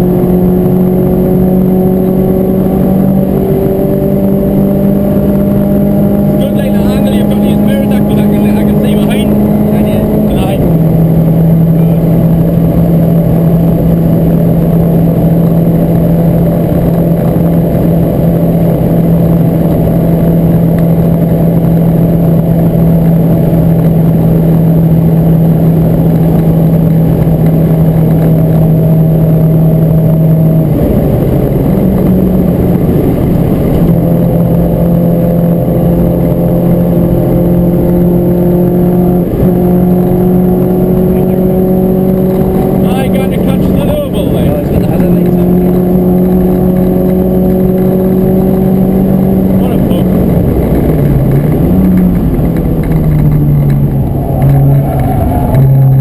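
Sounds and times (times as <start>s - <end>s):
car engine running hard: 0.0s - 56.0s
road and tyre noise: 0.0s - 56.0s.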